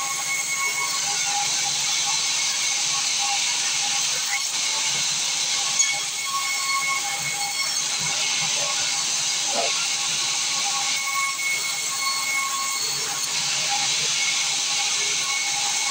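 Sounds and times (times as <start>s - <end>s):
sawmill saw running: 0.0s - 15.9s.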